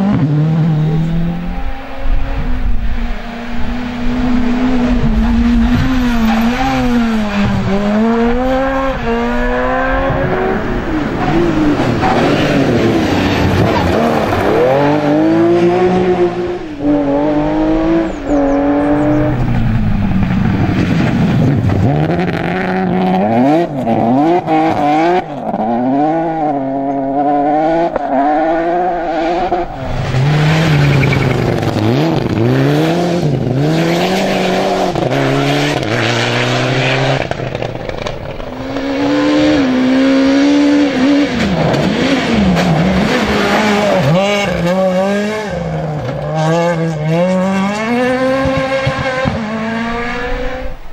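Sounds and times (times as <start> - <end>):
rally car engines at full throttle: 0.0 - 50.9.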